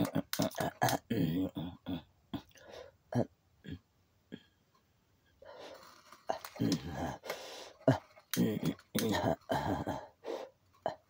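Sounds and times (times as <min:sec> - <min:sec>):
person muttering: 0:00.0 - 0:04.5, 0:06.2 - 0:11.0.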